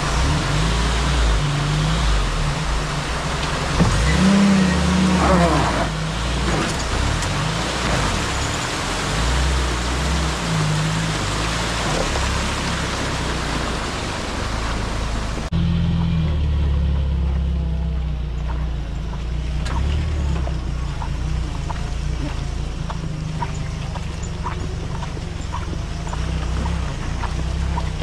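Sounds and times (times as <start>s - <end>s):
stream water rushing: 0.0s - 15.5s, 18.8s - 28.0s
jeep engine at low revs: 0.0s - 28.0s.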